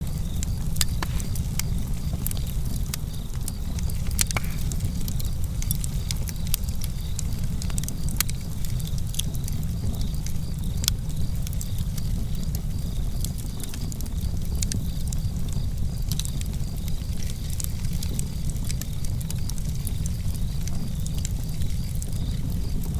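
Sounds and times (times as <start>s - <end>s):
fire crackling and popping: 0.0s - 22.9s.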